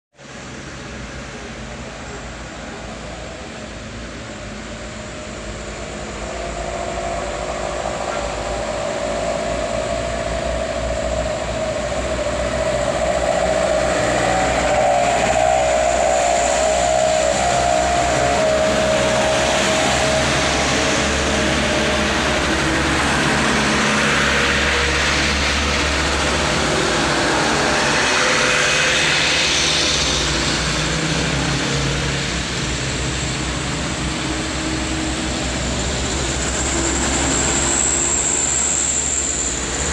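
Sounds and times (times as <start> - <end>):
diesel truck running under load: 3.8 - 39.9.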